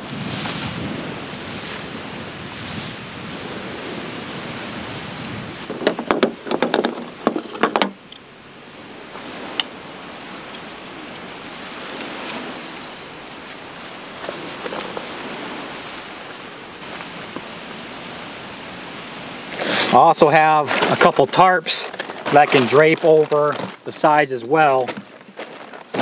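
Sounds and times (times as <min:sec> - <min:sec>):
wind noise: 0:00.0 - 0:26.0.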